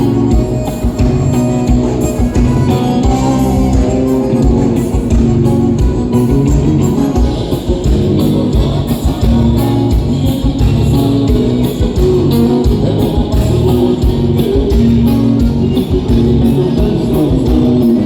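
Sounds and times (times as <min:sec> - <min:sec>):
guitar music with bass and beat: 0:00.0 - 0:18.0.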